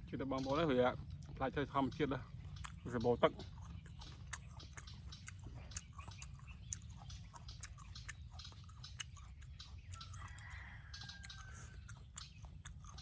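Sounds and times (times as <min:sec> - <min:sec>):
people crunching apples: 0:00.0 - 0:13.0.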